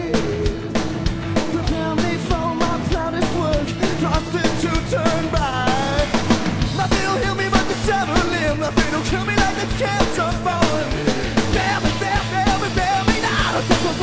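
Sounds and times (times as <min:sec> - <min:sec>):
person singing: 0:00.0 - 0:00.8, 0:01.4 - 0:14.0
rock band playing: 0:00.0 - 0:14.0.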